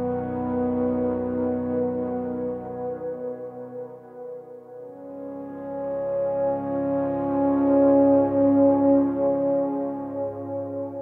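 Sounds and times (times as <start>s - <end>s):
slow background music: 0.0s - 11.0s.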